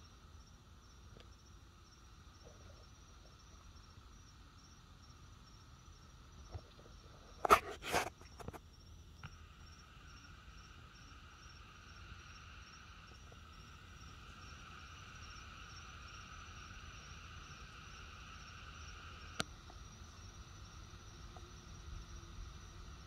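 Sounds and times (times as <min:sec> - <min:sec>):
night insects chirring: 0:00.0 - 0:23.0.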